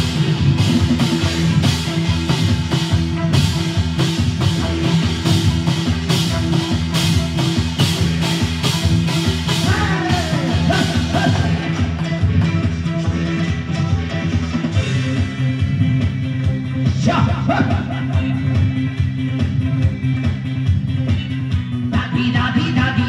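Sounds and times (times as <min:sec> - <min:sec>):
bass and chords: 0:00.0 - 0:23.0
fast drum beat: 0:00.0 - 0:23.0.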